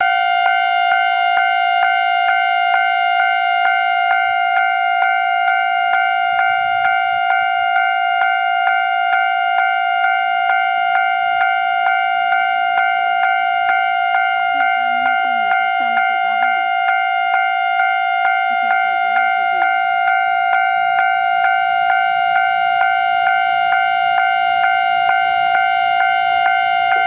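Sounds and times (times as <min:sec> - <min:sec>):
level crossing warning bell: 0:00.0 - 0:27.0.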